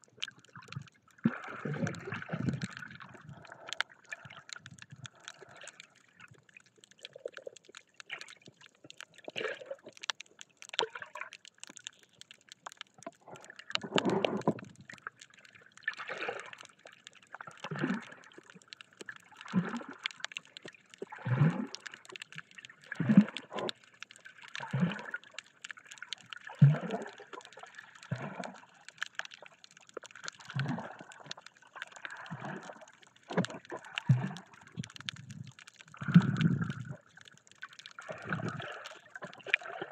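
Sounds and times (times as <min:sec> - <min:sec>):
muffled water sloshing underwater: 0:00.0 - 0:39.9.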